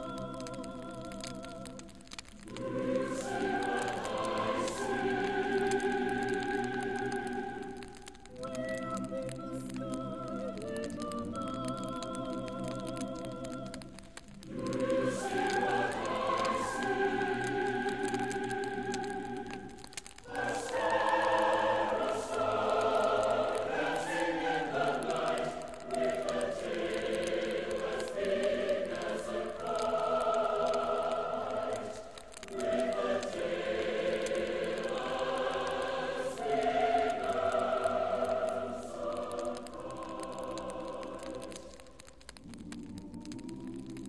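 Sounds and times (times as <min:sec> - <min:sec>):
choir singing sustained chords: 0:00.0 - 0:41.8, 0:42.4 - 0:44.0.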